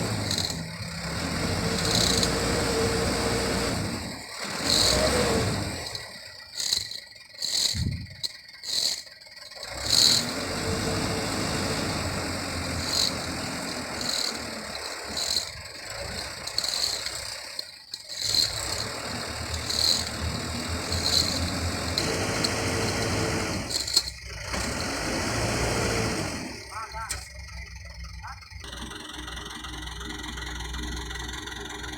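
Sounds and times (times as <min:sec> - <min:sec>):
dump truck engine running: 0:00.0 - 0:31.9.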